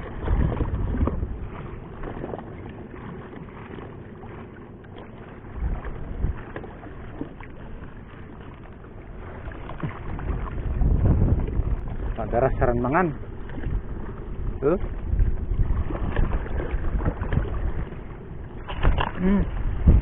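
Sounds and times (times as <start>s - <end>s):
wind buffeting microphone: 0.0s - 4.4s, 5.4s - 8.2s, 8.9s - 20.0s.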